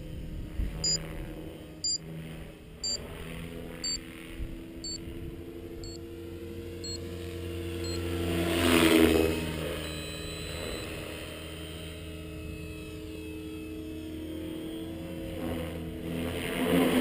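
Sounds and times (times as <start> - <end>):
rc helicopter rotor hum: 0.0 - 17.0.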